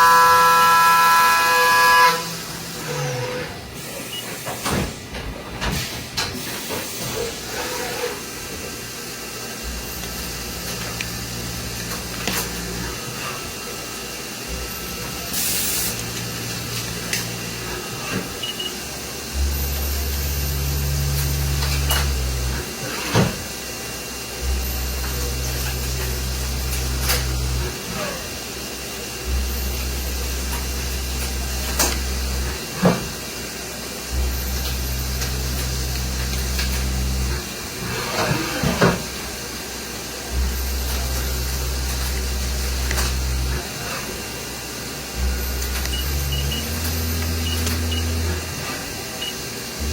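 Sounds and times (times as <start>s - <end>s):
machine motor hum: 0.0s - 49.9s.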